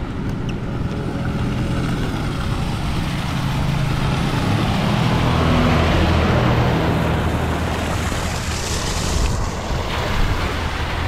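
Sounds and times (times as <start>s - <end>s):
water splashing onto pavement: 0.8s - 11.0s.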